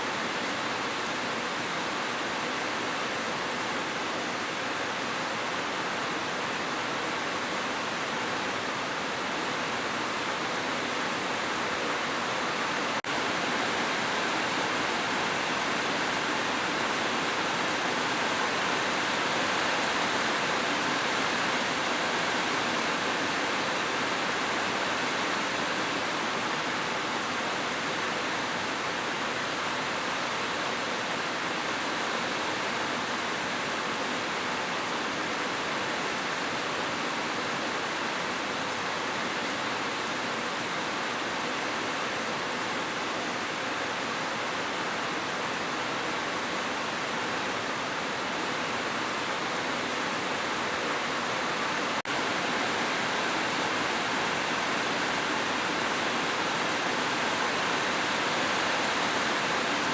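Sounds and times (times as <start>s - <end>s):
dense rainfall hiss: 0.0s - 59.9s.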